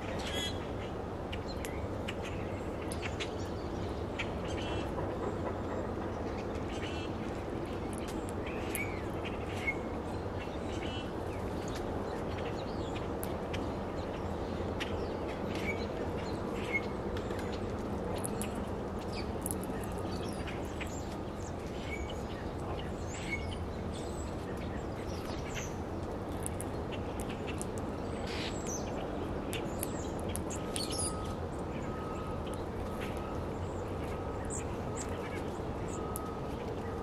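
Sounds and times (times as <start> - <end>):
low background noise: 0.0 - 37.0
small birds chirping: 6.2 - 37.0.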